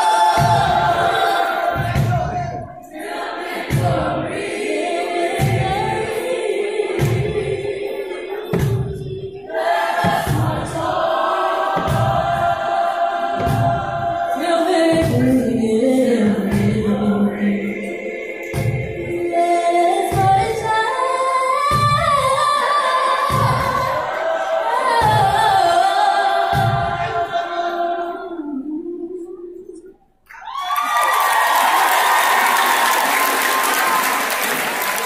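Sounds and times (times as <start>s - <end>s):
group of voices singing: 0.0s - 30.0s.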